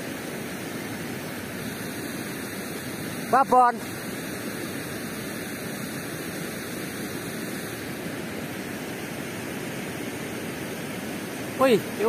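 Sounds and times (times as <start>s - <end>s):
fast-flowing river water: 0.0s - 12.0s.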